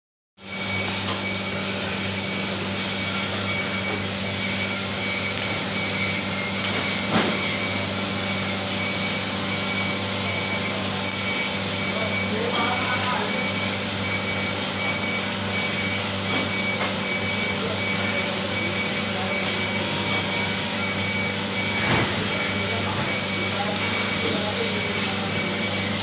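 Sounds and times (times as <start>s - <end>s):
low machine hum: 0.4s - 26.0s.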